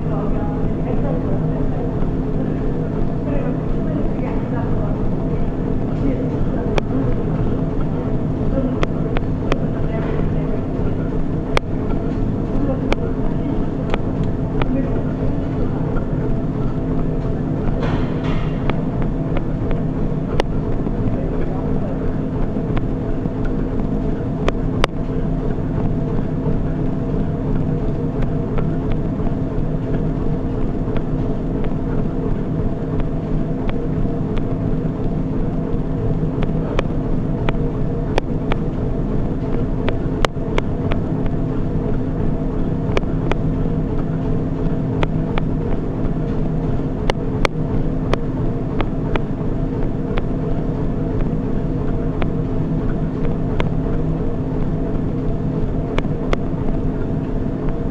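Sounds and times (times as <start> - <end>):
treadmill motor and belt drone: 0.0 - 57.9.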